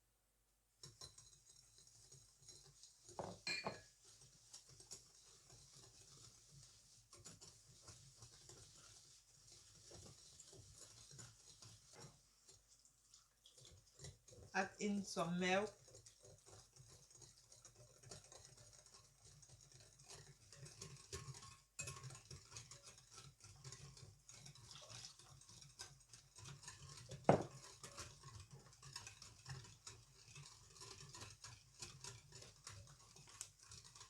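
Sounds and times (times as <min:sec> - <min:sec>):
utensil scraping and tapping bowl: 0:00.8 - 0:34.0.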